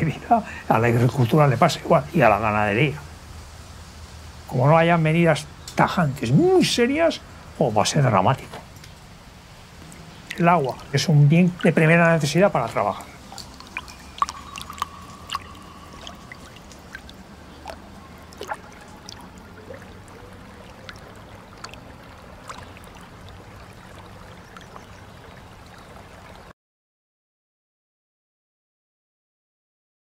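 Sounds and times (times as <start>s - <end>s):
water trickling: 0.0s - 26.5s
sharp water drips: 0.4s - 26.5s.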